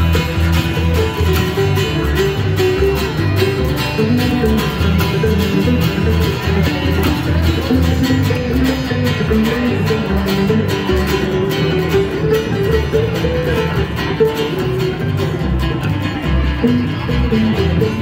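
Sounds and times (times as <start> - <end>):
picked mandolin: 0.0 - 18.0
strummed acoustic guitar: 0.0 - 18.0
upright bass plucking: 0.0 - 18.0.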